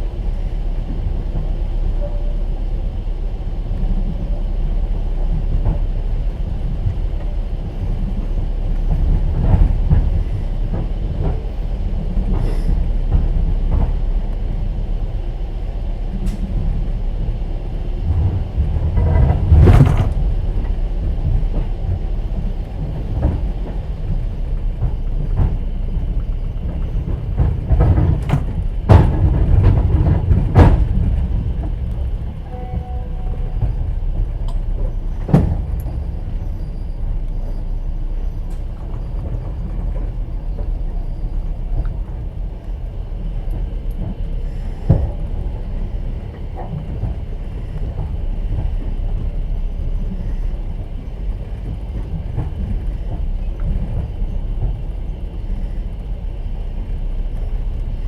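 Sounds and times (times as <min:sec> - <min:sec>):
train rumbling: 0:00.0 - 0:58.0
wheels clattering over rail joints: 0:00.0 - 0:58.0.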